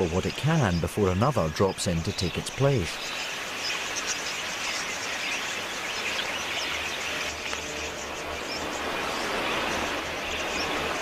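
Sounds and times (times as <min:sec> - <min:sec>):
flock of budgerigars chirping: 0:00.0 - 0:11.0.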